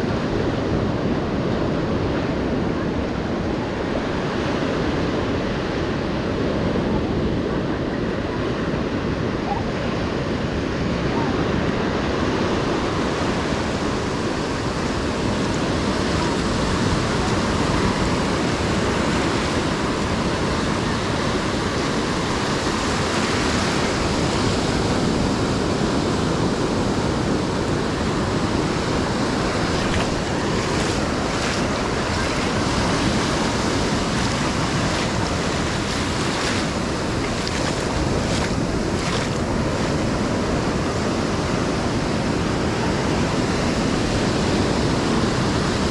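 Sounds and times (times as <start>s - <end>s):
ocean waves breaking on beach: 0.0s - 45.9s.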